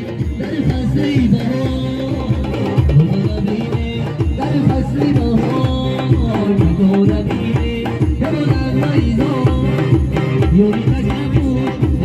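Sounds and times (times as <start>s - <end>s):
hand drum beat: 0.0s - 12.0s.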